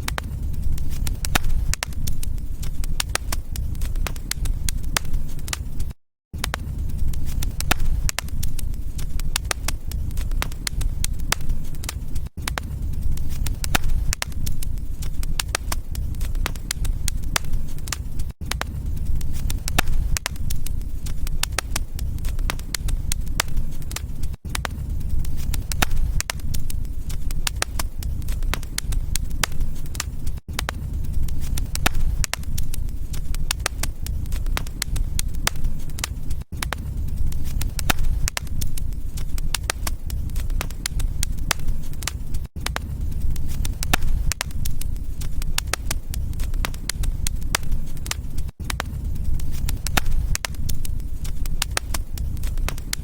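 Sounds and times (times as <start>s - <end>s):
fire crackling and popping: 0.0s - 53.0s
low rumble of flames: 0.0s - 53.0s.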